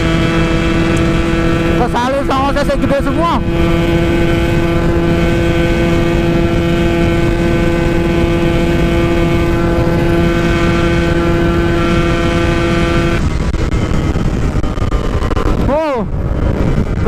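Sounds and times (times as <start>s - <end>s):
two-stroke motorcycle engine high revs: 0.0s - 17.0s.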